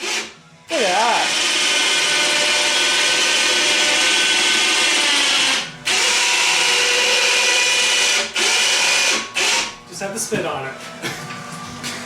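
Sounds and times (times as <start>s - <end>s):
electric power tool whining: 0.0s - 9.8s.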